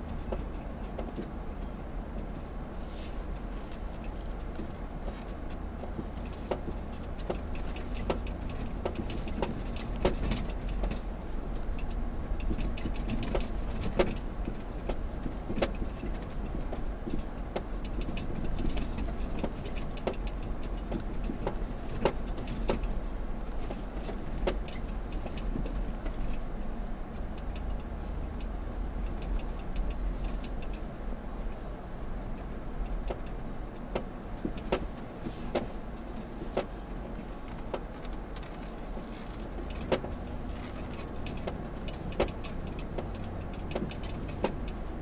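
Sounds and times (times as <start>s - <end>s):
low rumble of vehicle cabin: 0.0s - 45.0s.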